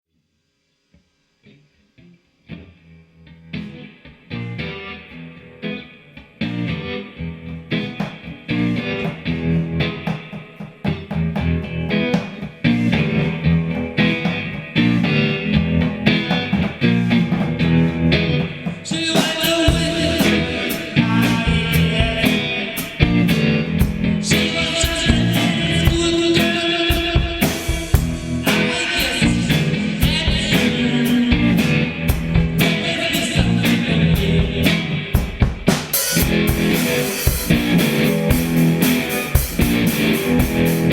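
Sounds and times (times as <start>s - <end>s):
rock band playing: 3.4s - 40.9s
drums and cymbals: 7.9s - 40.9s.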